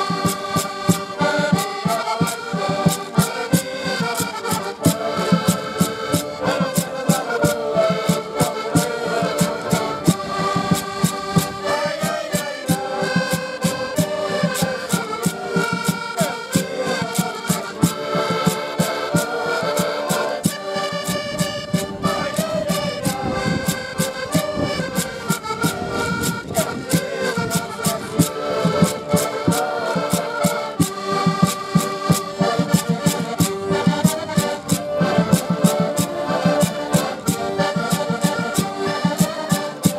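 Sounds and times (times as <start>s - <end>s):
button accordions playing folk tune: 0.0s - 39.9s
clicking hand percussion: 0.0s - 39.9s.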